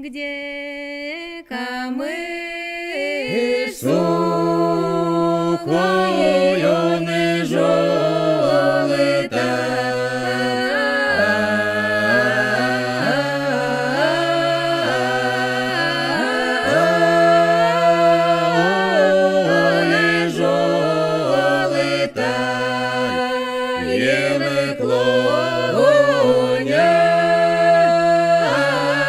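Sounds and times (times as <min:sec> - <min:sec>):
choir singing a cappella: 0:00.0 - 0:29.0.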